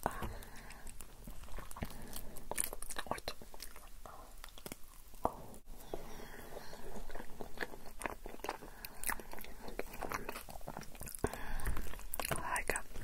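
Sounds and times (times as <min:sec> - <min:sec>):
wet chewing and mouth clicks: 0:00.0 - 0:13.0.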